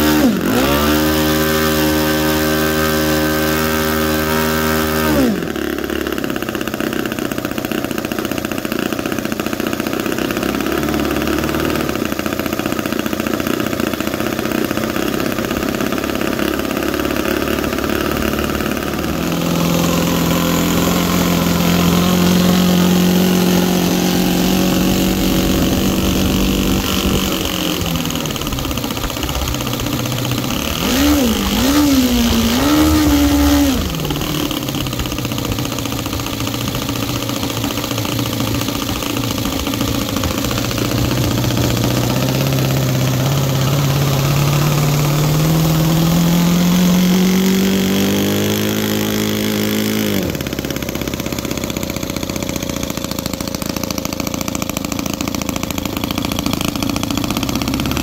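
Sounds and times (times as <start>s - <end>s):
model engine running with propeller: 0.0s - 58.0s.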